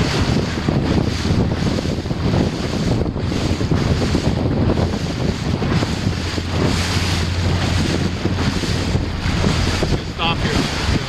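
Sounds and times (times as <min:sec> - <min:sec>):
choppy waves slapping: 0:00.0 - 0:11.0
wind buffeting microphone: 0:00.0 - 0:11.0.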